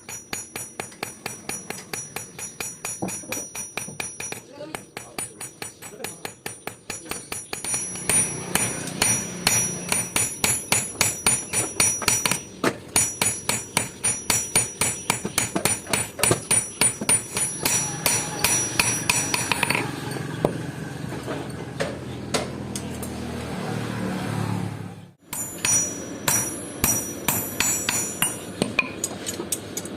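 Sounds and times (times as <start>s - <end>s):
hammer striking steel on anvil: 0.0s - 20.6s, 25.2s - 29.9s.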